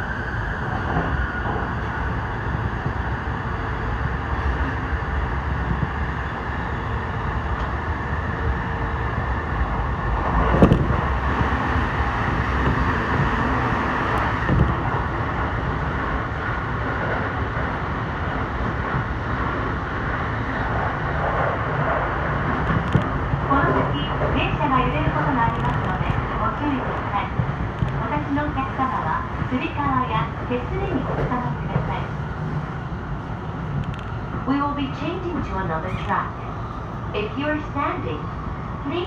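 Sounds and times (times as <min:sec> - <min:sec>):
train running on rails: 0:00.0 - 0:39.0.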